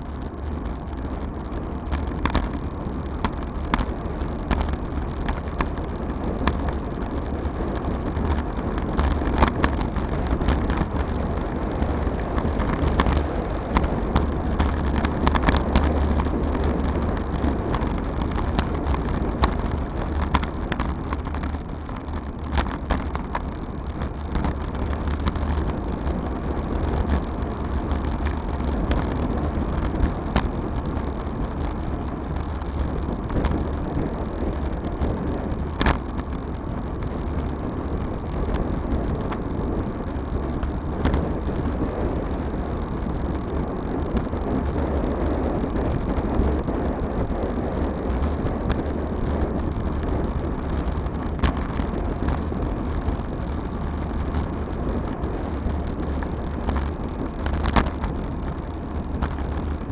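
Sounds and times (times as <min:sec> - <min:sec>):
tyre and road noise: 0:00.0 - 0:59.9
wind buffeting microphone: 0:00.0 - 0:59.9.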